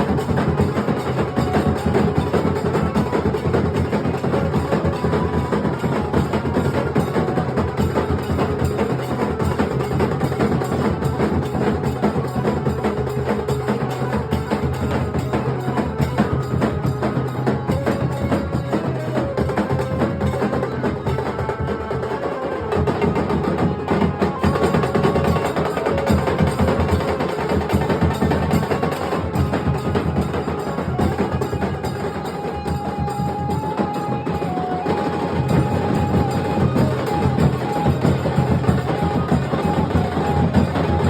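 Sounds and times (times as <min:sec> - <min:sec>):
barrel drums: 0:00.0 - 0:41.0.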